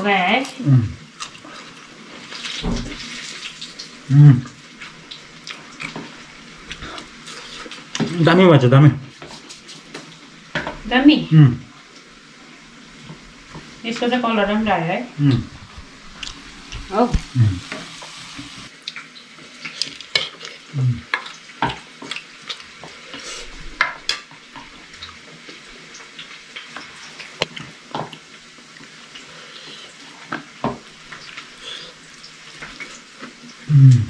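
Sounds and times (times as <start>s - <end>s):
food sizzling in oil: 0.0s - 33.9s.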